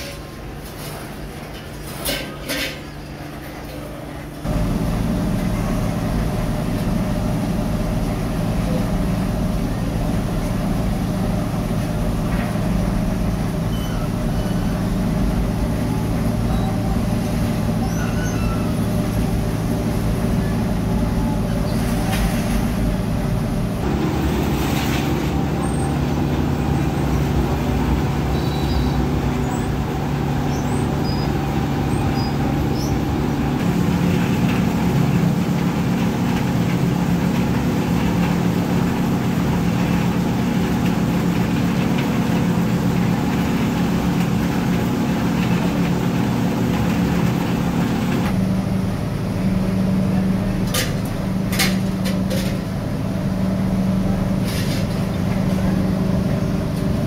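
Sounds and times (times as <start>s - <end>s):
factory machinery drone: 0.0s - 57.0s.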